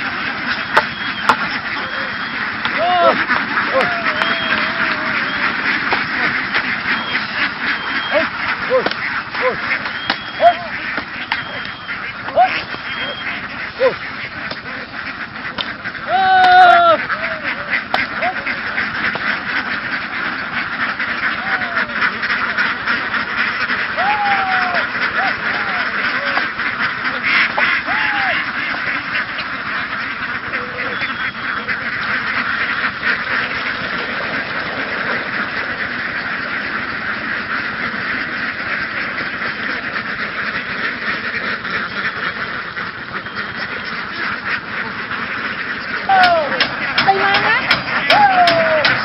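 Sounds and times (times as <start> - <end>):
ducks quacking: 0.0 - 49.0
high arched duck calls: 0.0 - 49.0.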